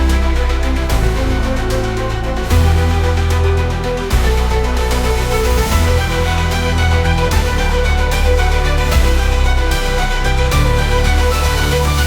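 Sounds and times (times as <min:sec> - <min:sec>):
electronic music with synth and bass: 0:00.0 - 0:12.0.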